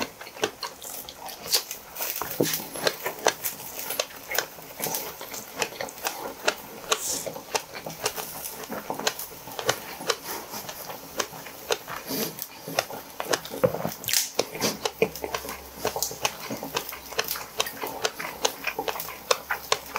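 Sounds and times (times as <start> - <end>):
crunchy chewing: 0.0 - 19.9.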